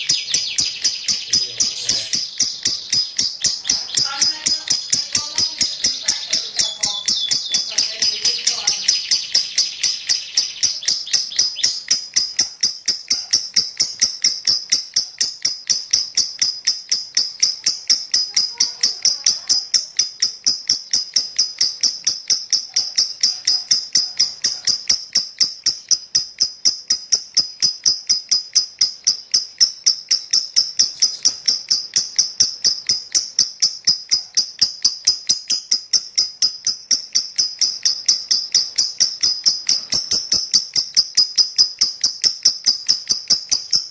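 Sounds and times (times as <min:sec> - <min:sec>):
lovebird chattering: 0:00.0 - 0:43.9.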